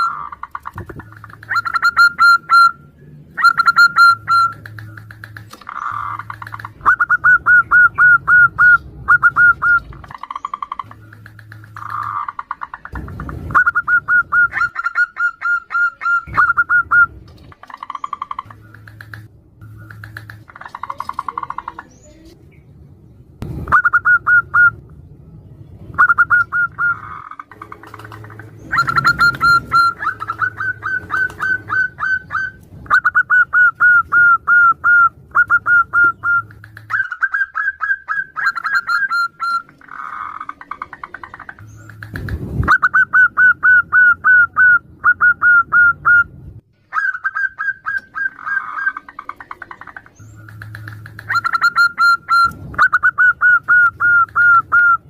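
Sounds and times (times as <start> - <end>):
doves cooing: 0.0 - 22.1, 25.9 - 46.3, 46.9 - 55.0.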